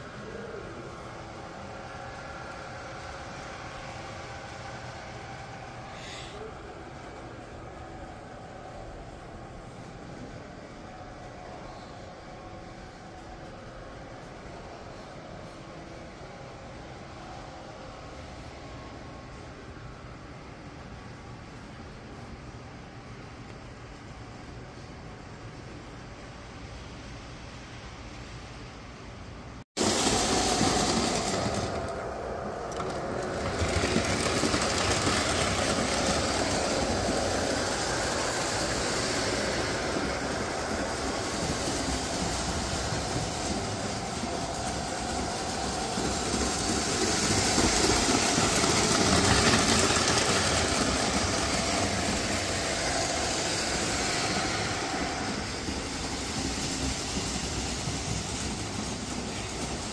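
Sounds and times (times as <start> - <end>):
model train wheels rumbling: 0.0 - 59.9.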